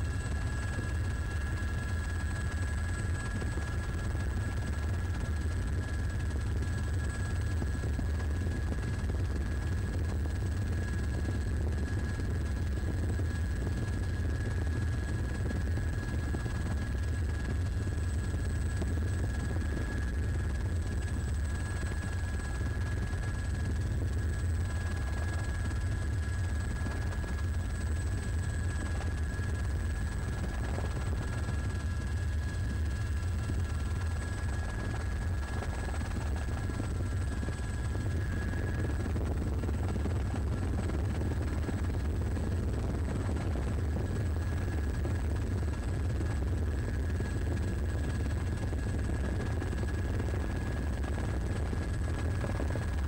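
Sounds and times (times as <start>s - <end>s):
helicopter rotor and engine drone: 0.0s - 53.0s.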